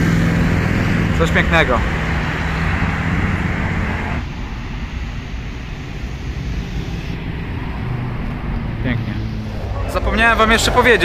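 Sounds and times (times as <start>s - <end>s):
traffic engine hum: 0.0s - 11.0s
traffic rushing noise: 0.0s - 11.0s.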